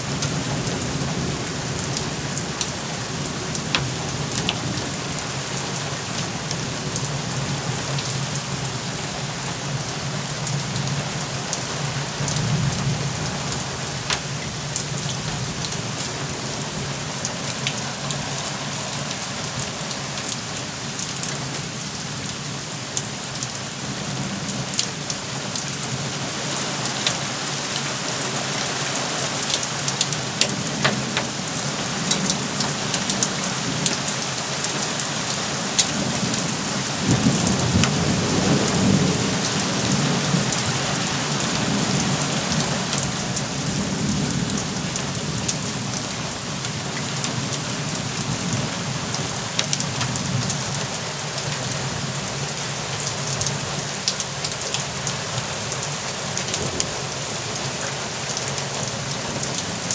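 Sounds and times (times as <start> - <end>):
heavy rain on metal roof: 0.0 - 59.9.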